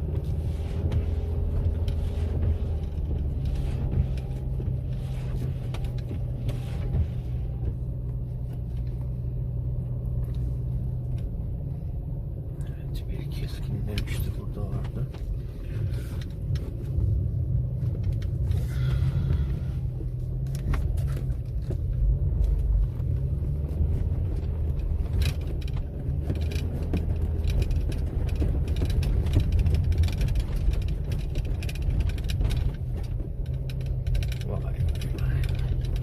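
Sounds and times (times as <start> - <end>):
car driving through snow: 0.0 - 36.0.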